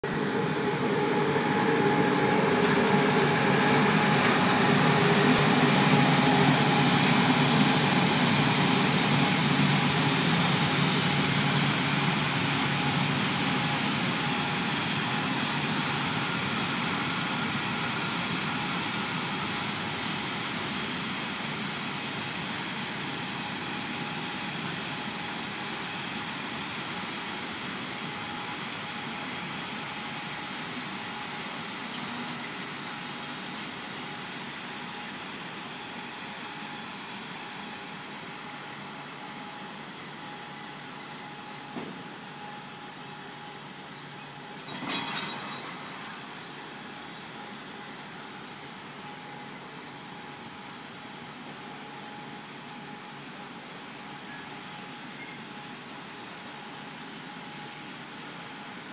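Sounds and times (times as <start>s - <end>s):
freight train wheels rumbling: 0.0s - 58.9s.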